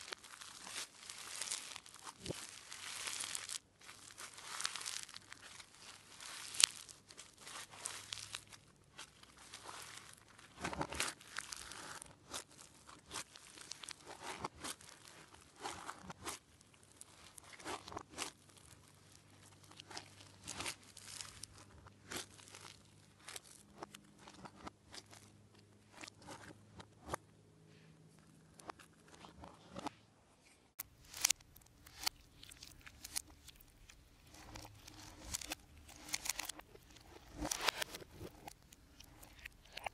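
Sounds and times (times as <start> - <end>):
foam slime crunching and crackling: 0.0 - 26.6, 30.8 - 39.9.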